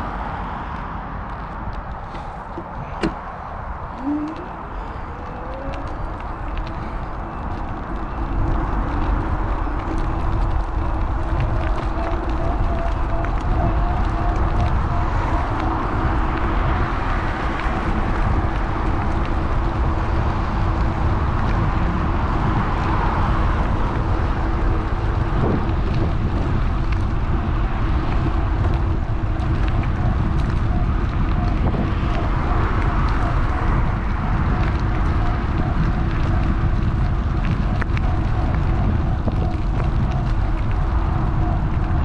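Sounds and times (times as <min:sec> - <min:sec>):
tyre and road noise: 0:00.0 - 0:42.0
wind rushing over microphone: 0:00.0 - 0:42.0.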